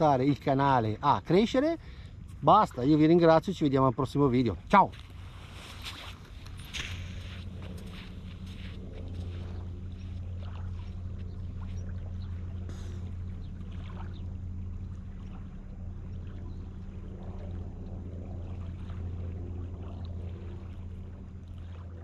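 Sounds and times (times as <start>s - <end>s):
small waves lapping on shore: 0.0s - 22.0s
wind rumbling on microphone: 0.0s - 22.0s.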